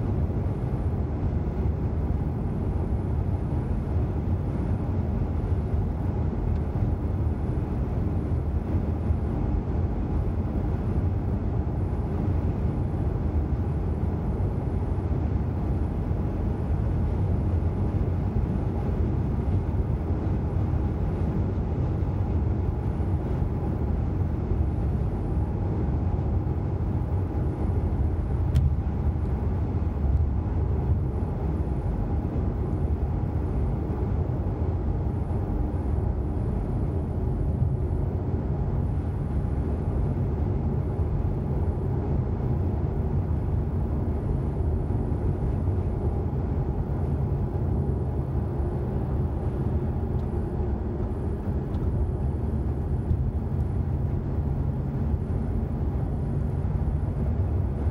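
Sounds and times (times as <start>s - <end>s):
car road noise drone: 0.0s - 57.9s.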